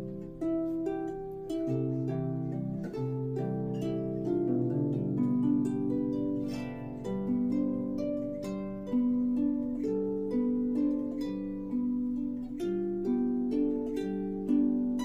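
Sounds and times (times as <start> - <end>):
harp playing a melody: 0.0 - 15.0.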